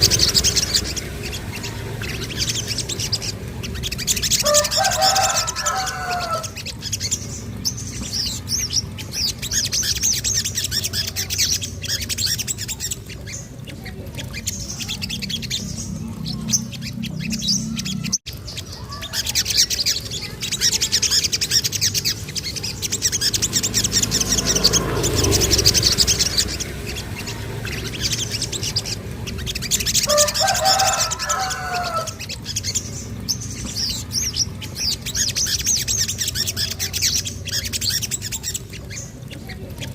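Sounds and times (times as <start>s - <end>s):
low warbled bird phrases: 0.0s - 39.9s
songbirds chirping trills: 0.0s - 39.9s.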